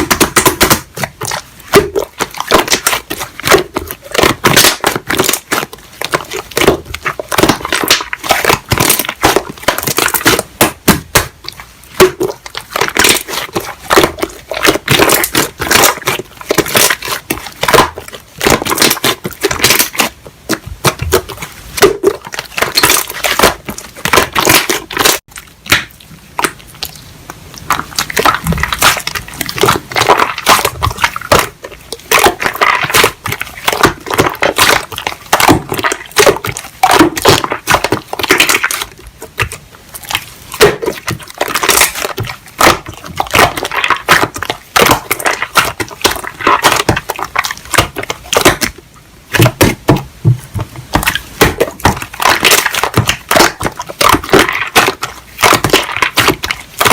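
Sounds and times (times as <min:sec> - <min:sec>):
hands squishing slime: 0:00.0 - 0:56.9.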